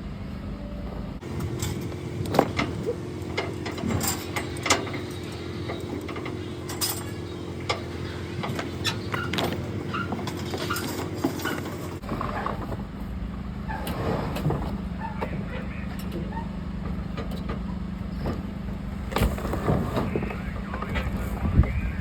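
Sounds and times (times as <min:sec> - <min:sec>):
engine running: 0:00.0 - 0:22.0
clanks and knocks: 0:01.2 - 0:21.8.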